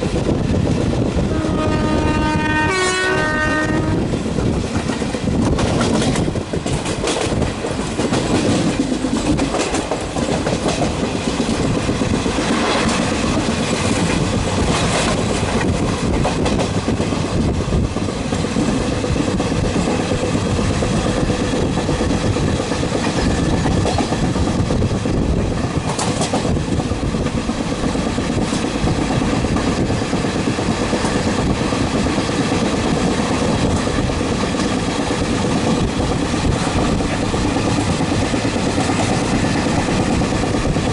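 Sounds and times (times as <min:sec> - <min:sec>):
train passing at speed: 0:00.0 - 0:40.9
wheels clacking over rail joints: 0:04.2 - 0:40.9.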